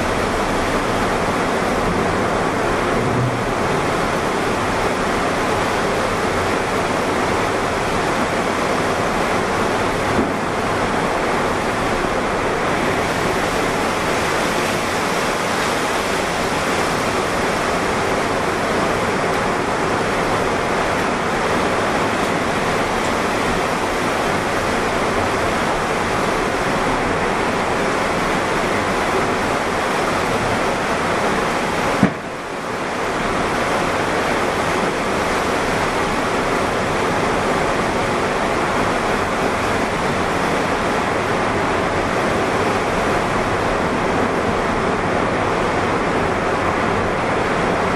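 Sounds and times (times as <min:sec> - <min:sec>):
heavy rain: 0:00.0 - 0:47.9
strong wind: 0:00.0 - 0:47.9.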